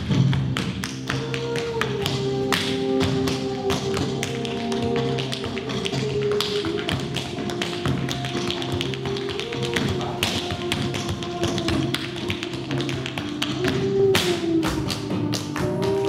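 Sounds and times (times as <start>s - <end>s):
music: 0.0s - 16.0s
tap shoes on wooden floor: 0.0s - 16.0s.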